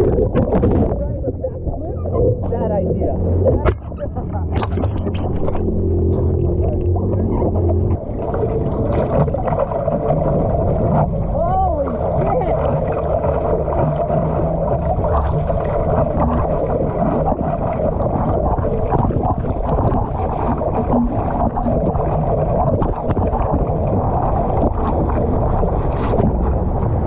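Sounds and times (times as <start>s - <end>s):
water splashing against surfboard: 0.0s - 27.0s
wind buffeting microphone: 0.0s - 27.0s.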